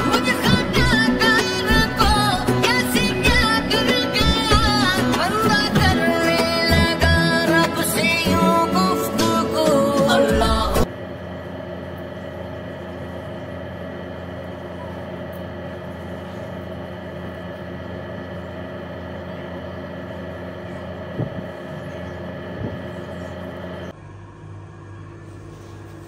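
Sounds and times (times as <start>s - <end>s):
machine hum with pitched tones: 0.0s - 26.0s
quieter hum: 0.0s - 26.0s.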